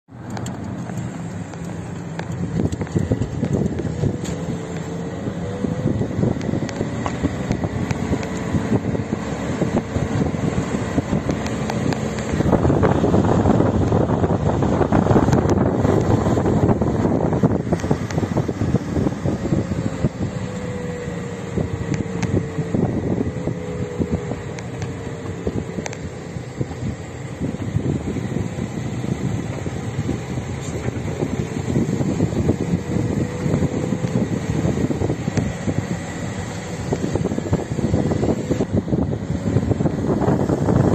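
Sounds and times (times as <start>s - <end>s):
car road noise: 0.0s - 40.9s
wind rushing on microphone: 0.1s - 40.9s.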